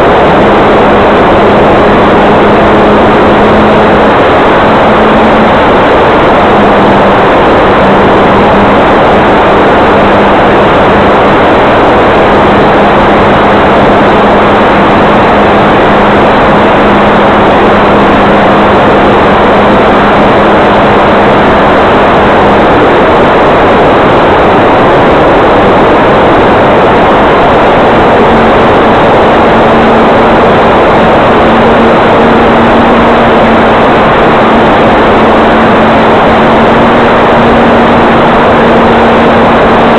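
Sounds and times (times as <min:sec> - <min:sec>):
low propeller hum: 0:00.0 - 0:39.9
rush of wind noise: 0:00.0 - 0:39.9.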